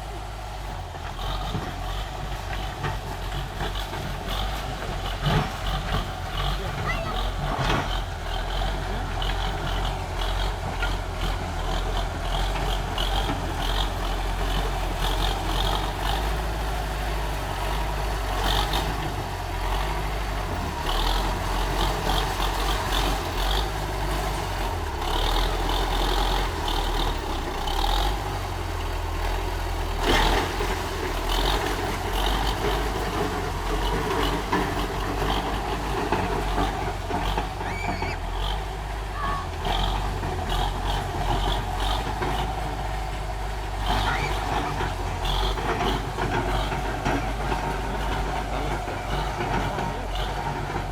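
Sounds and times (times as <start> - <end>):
diesel tractor engine running: 0.0 - 50.9.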